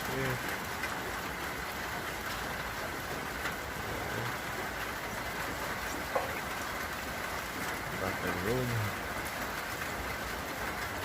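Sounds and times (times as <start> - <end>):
steady rain falling: 0.0 - 11.0
traffic hiss on wet street: 0.0 - 11.0
water drip ticks: 0.0 - 11.0.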